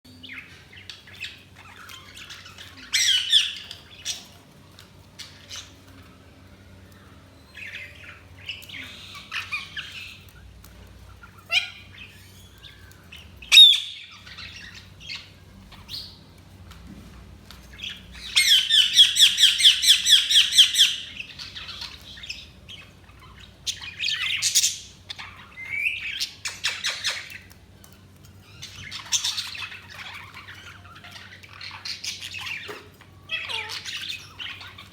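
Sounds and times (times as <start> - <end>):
budgerigars chirping and squawking: 0.1 - 34.9.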